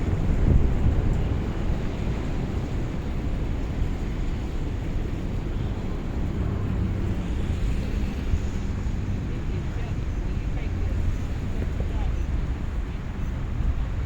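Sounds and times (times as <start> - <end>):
street traffic: 0.0 - 14.0
wind buffeting microphone: 0.0 - 14.0.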